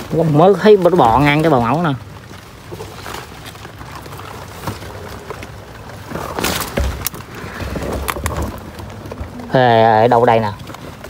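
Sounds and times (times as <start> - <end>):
rustling in wet vegetation: 0.0 - 11.0
steady rain: 0.0 - 11.0.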